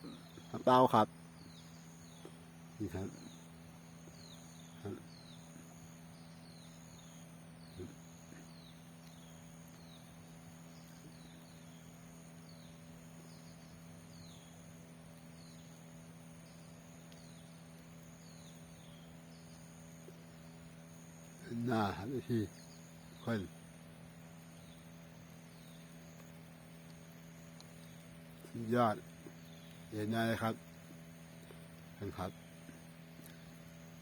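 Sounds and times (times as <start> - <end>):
bird chirping: 0.0 - 23.6, 24.2 - 34.0
insects trilling: 0.0 - 34.0
low steady hum: 0.0 - 34.0.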